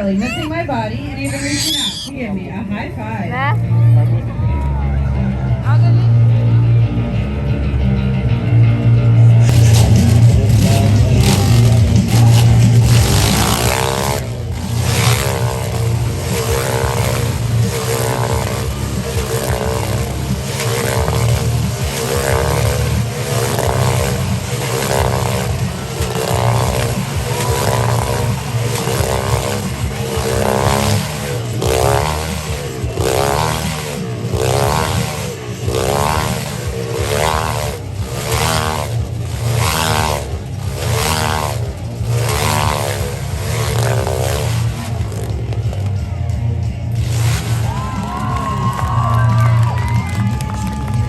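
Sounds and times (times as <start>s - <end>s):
motorcycle engine at high revs: 0.0s - 2.2s, 9.0s - 51.0s.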